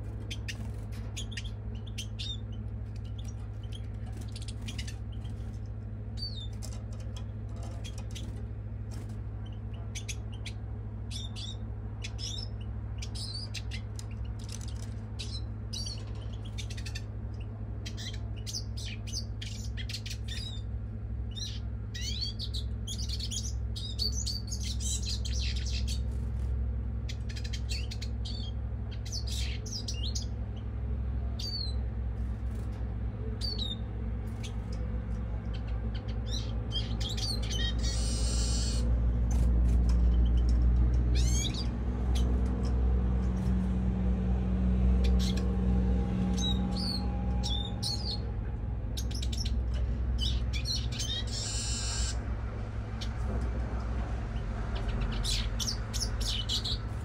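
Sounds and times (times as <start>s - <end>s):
bird chirping and trilling: 0.0s - 31.8s, 32.5s - 52.3s, 54.3s - 57.0s.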